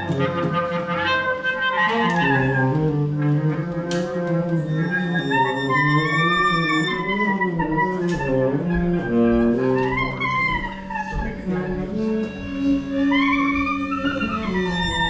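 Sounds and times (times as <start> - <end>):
acoustic instruments improvising: 0.0 - 15.0.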